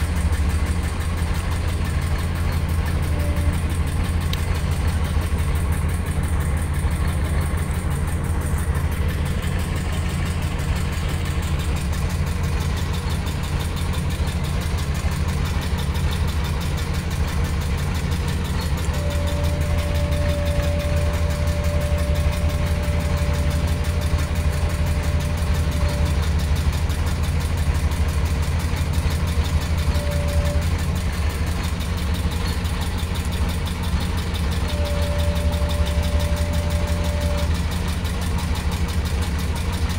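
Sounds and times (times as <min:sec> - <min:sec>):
boat engine idling: 0:00.0 - 0:39.9.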